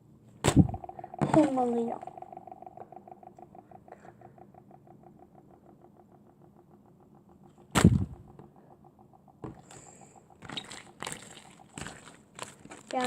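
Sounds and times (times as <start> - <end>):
faint rapid ticking: 0.6 - 13.0.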